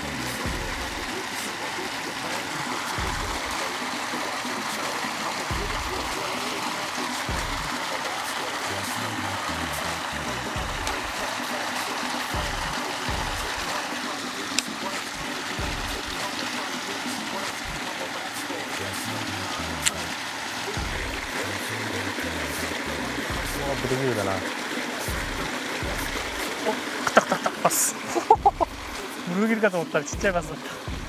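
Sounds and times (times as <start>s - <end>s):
background music: 0.0s - 31.0s
stream rushing into pond: 0.0s - 31.0s.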